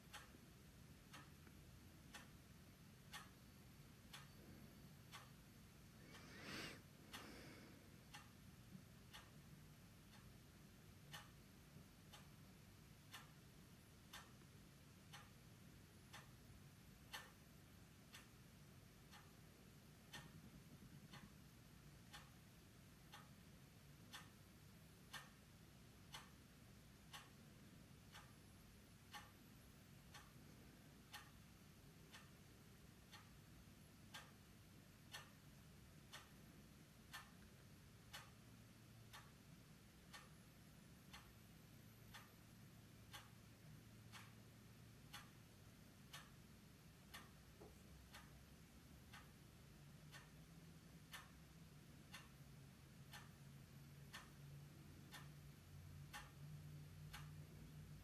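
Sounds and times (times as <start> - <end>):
clock ticking: 0.0 - 58.0
low room hum: 0.0 - 58.0.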